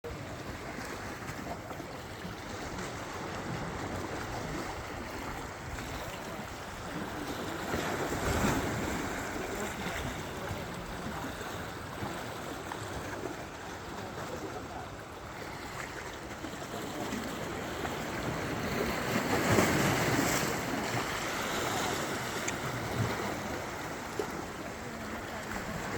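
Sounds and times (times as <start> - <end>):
sea water rushing: 0.0 - 25.9.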